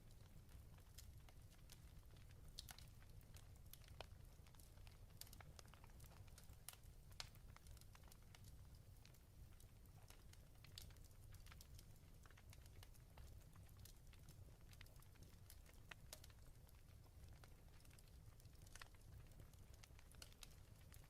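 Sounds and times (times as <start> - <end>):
fireplace crackling: 0.0 - 21.0.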